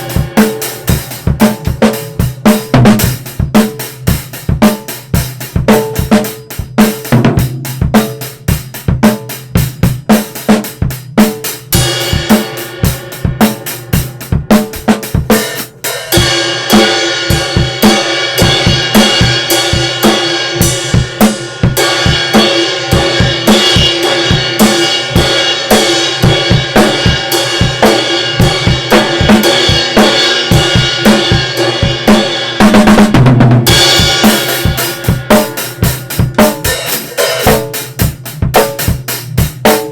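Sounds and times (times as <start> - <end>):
drum kit groove: 0.0 - 39.9
fast drum fill: 0.0 - 39.9.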